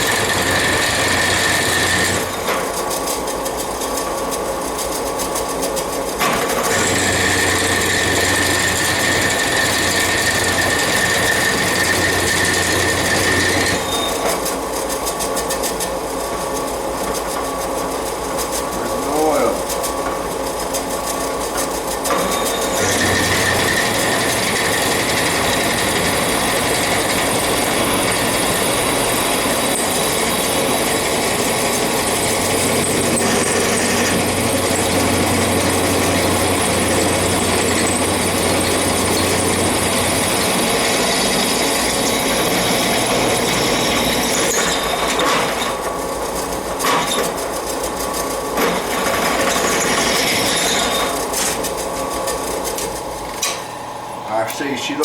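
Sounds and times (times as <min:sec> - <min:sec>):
drill press whirring through steel: 0:00.0 - 0:55.0.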